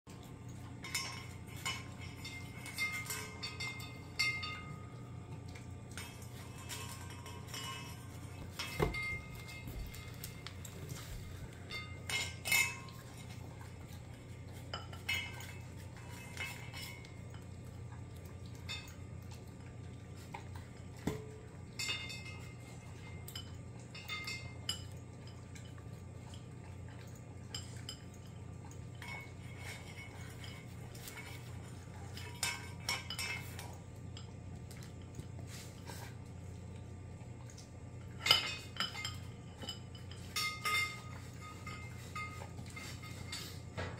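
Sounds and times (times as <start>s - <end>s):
collar clinking against bowl: 0.2s - 36.4s, 38.0s - 43.9s.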